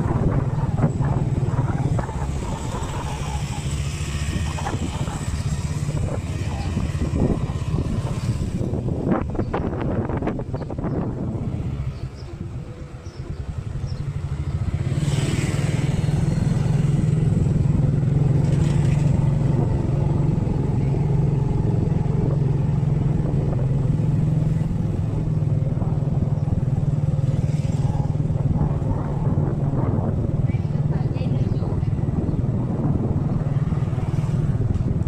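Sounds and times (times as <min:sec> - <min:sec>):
motorbike engine humming: 0:00.0 - 0:35.0
street traffic: 0:00.0 - 0:35.0.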